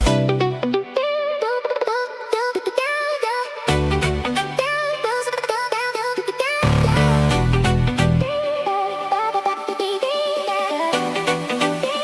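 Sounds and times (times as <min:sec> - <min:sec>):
electronic music with synth melody: 0:00.0 - 0:02.8, 0:03.6 - 0:05.5, 0:06.6 - 0:12.0.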